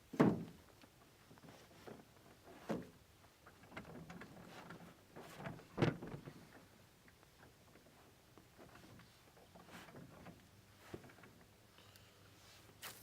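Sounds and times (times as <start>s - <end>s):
faint clicks and rustles: 0.7s - 13.0s.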